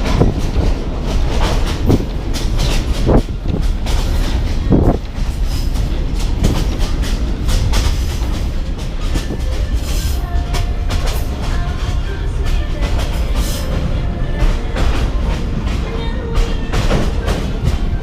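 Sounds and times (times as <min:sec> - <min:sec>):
train carriage rumbling: 0:00.0 - 0:18.0.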